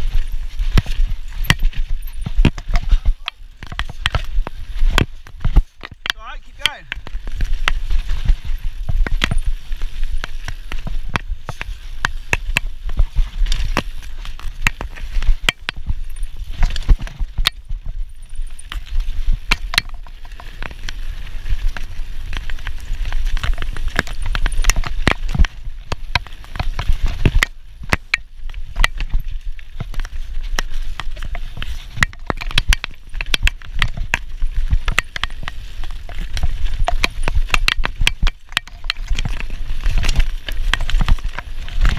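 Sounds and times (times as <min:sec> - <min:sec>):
bike rattling and knocking: 0:00.0 - 0:41.9
bike tyres rolling over dirt: 0:00.0 - 0:41.9
wind rumble on microphone: 0:00.0 - 0:41.9.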